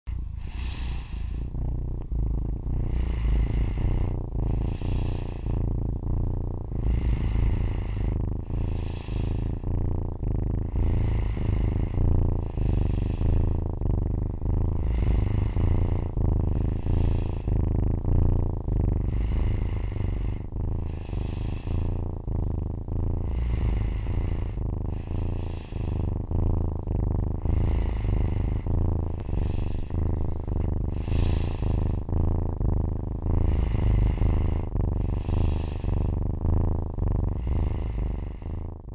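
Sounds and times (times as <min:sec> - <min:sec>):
kitten purring: 0:00.0 - 0:38.9
person snoring: 0:00.1 - 0:38.9.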